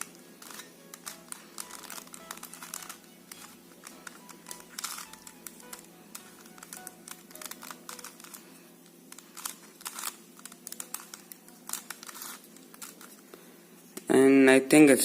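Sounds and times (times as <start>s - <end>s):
puzzle layers clicking and rattling: 0.0s - 8.4s, 9.1s - 13.2s.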